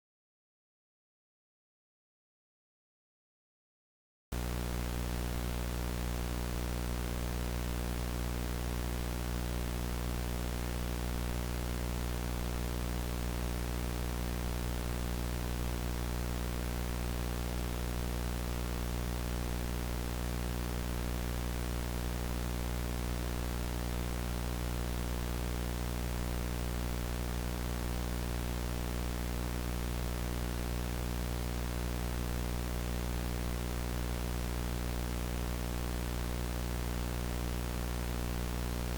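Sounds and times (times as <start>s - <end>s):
static hiss: 4.4s - 38.9s.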